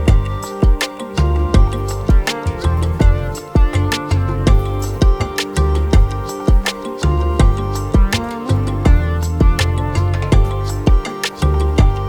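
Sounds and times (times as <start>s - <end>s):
plucked string instrumental music: 0.0s - 12.0s
steady drum pulse: 0.0s - 12.0s.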